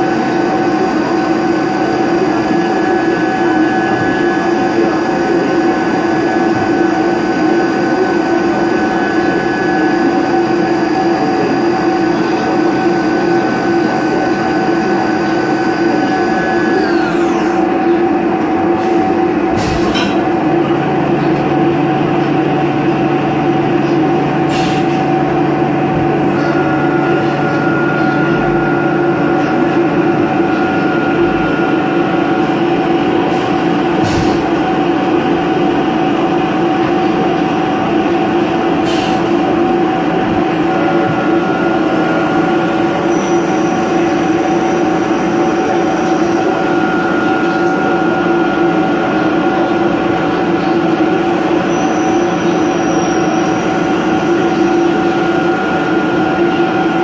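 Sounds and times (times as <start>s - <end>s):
milling machine spindle whine: 0.0s - 19.6s, 20.3s - 57.0s
constant machine hum: 0.0s - 57.0s.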